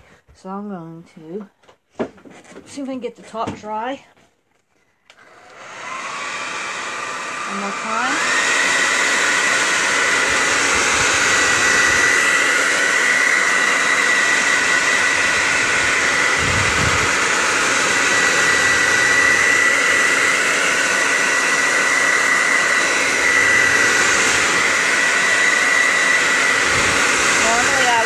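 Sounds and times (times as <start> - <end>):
hair dryer blowing: 5.0 - 28.0.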